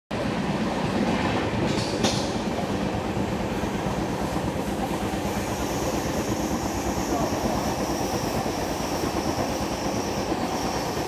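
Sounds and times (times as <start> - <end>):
train wheels rumbling on rails: 0.1 - 11.0
wind: 0.1 - 11.0.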